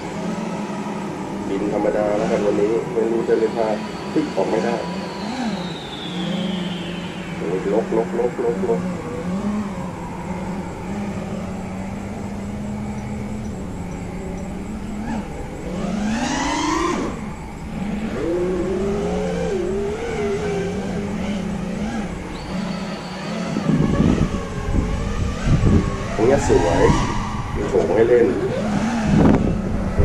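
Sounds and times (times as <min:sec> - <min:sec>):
quadcopter motors whining: 0:00.0 - 0:30.0.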